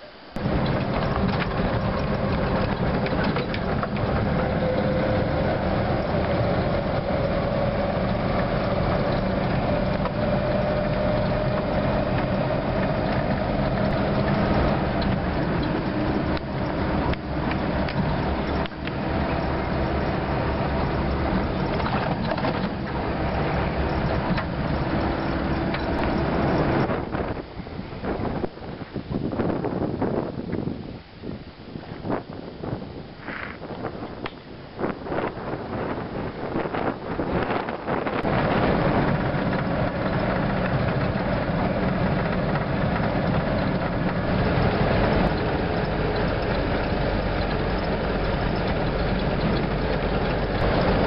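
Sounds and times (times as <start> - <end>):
vehicle engine and drivetrain whine: 0.0 - 51.0.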